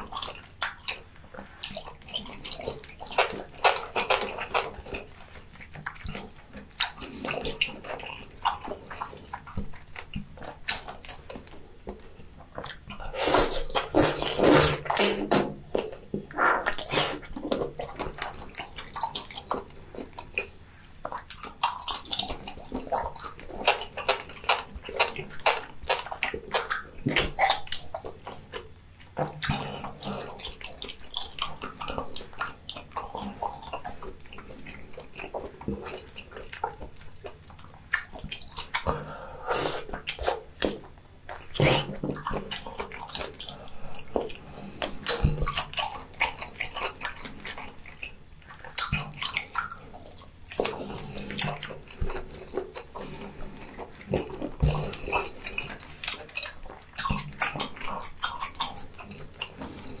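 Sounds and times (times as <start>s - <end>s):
wet chewing and slurping: 0.0s - 60.0s.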